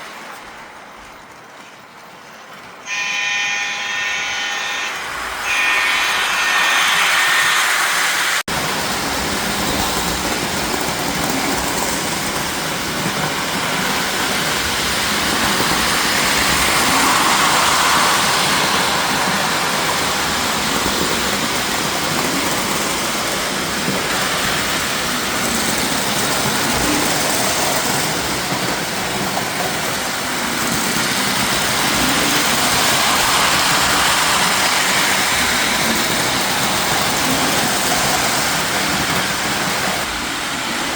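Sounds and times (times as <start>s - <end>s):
toy train running on track: 2.8s - 40.6s.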